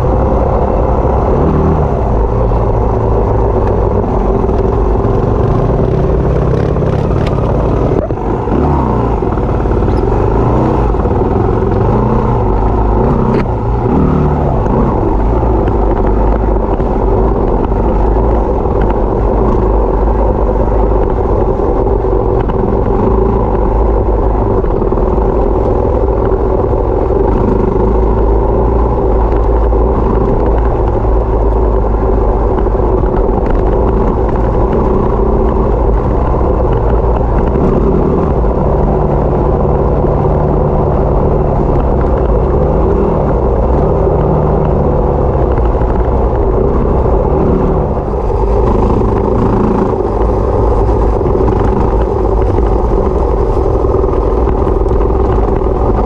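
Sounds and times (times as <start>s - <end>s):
motorbike engine running: 0.0s - 56.0s.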